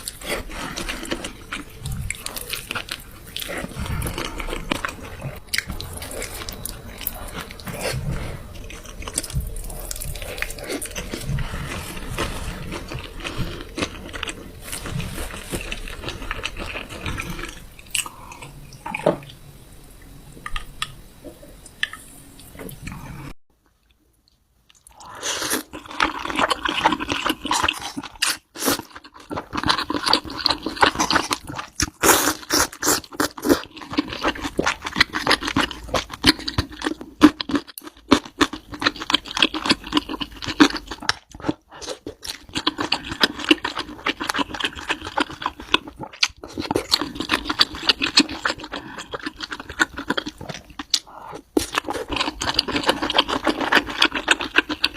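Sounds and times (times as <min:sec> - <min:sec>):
crunchy food being chewed: 0:00.0 - 0:19.1, 0:23.8 - 0:54.9.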